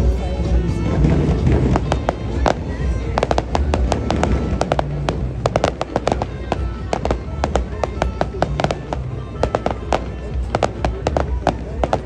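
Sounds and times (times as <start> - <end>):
low rumble: 0.0 - 12.0
fireworks cracks and bangs: 1.0 - 12.0.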